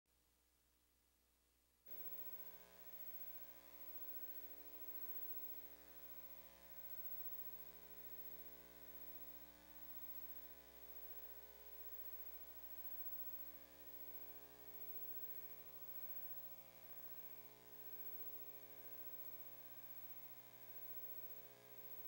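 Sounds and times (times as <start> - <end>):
faint electrical hum and buzz: 0.2 - 22.0.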